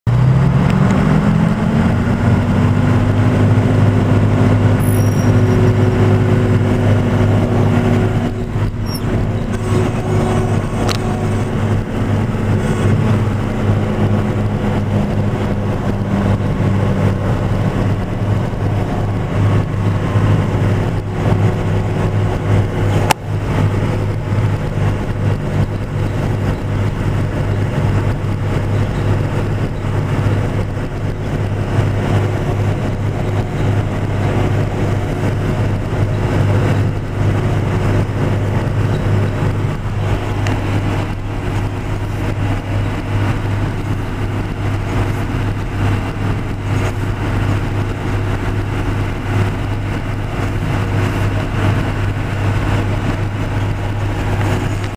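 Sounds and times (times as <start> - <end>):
tractor engine droning: 0.1 - 54.9.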